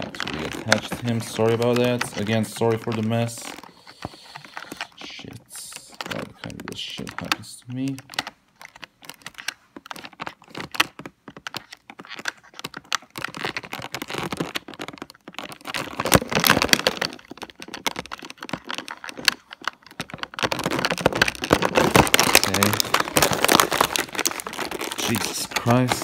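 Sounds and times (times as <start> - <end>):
plastic packaging crackling: 0.0 - 26.0.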